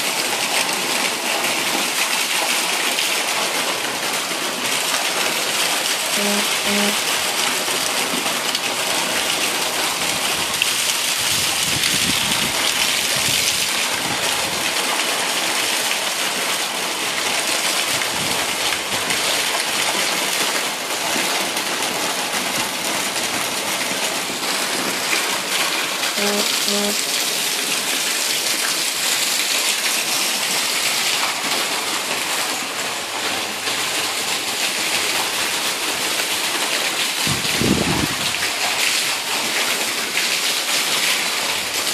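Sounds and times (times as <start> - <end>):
heavy rain falling: 0.0 - 41.9
runoff pouring off roof: 0.0 - 41.9.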